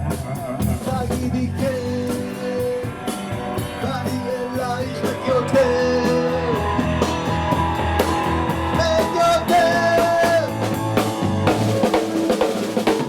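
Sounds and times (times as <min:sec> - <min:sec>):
bass line: 0:00.0 - 0:12.7
electric guitar melody: 0:00.0 - 0:12.8
drum kit: 0:00.0 - 0:13.0.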